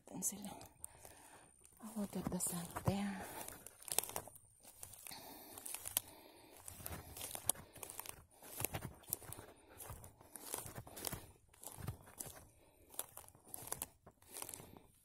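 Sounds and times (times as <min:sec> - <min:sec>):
pine cones crunching underfoot: 0:00.4 - 0:15.0.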